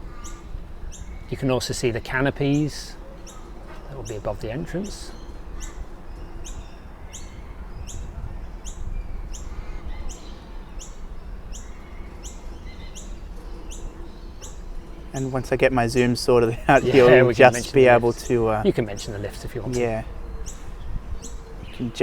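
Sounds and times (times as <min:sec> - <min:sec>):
bird chirping: 0:00.0 - 0:22.0
low rumble of city traffic: 0:00.0 - 0:22.0.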